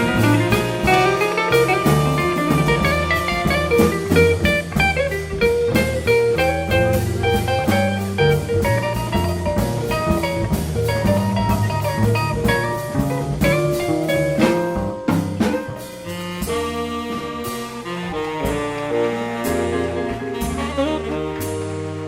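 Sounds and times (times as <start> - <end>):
jazz band playing blues: 0.0 - 22.0.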